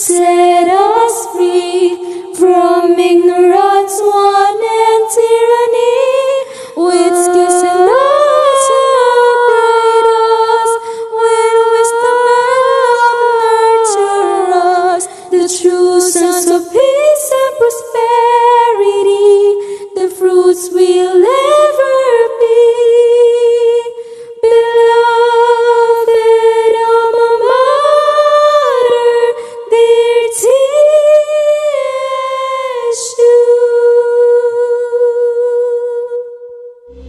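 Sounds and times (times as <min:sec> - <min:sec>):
woman singing a hymn solo: 0:00.0 - 0:36.4.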